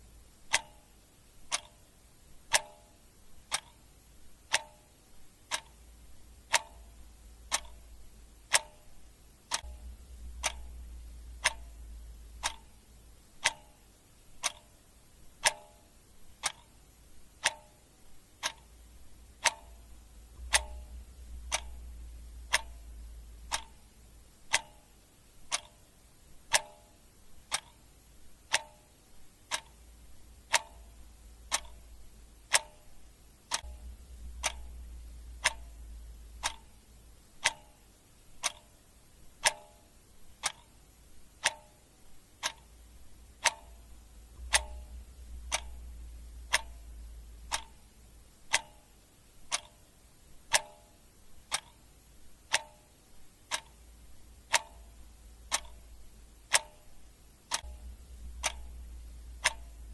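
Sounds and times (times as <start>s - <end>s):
clock ticking: 0.0s - 59.9s
faint low rumble: 0.0s - 59.9s.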